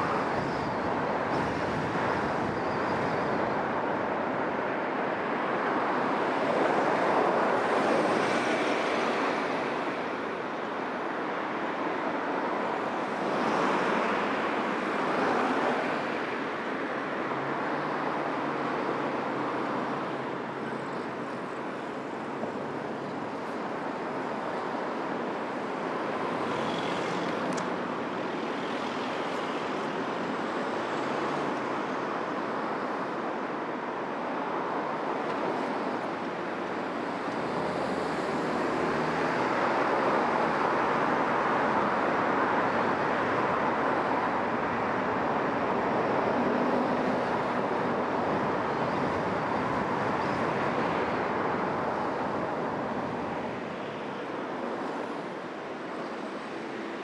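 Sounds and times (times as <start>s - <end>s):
car tyre and engine noise: 0.0s - 57.0s
passing traffic: 0.0s - 57.0s.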